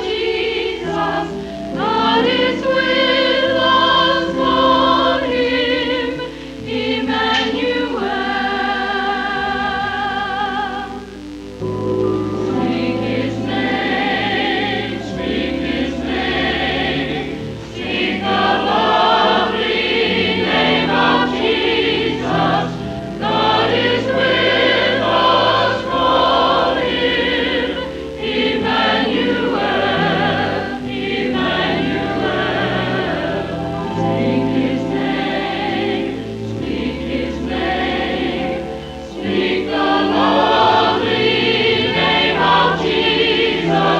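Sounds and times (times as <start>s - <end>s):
church choir singing: 0.0s - 43.9s.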